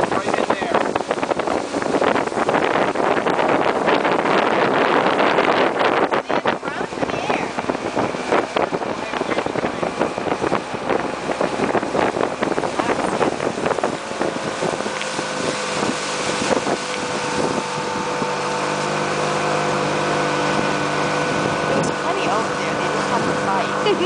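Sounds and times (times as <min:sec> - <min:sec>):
motorboat engine running: 0:00.0 - 0:24.0
wind on microphone: 0:00.0 - 0:24.0.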